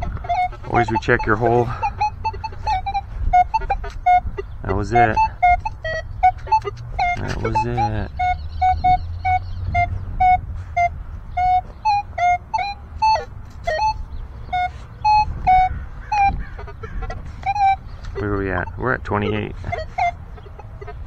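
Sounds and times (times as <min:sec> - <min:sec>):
metal detector beeps: 0:00.0 - 0:14.0, 0:14.6 - 0:16.4, 0:17.4 - 0:20.2
steady low rumble: 0:00.0 - 0:21.0.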